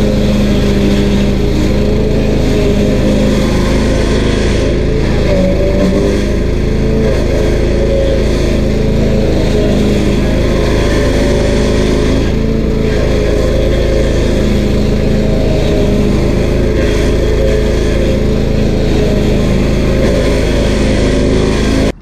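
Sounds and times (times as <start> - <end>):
stump grinder engine running: 0.0 - 22.0.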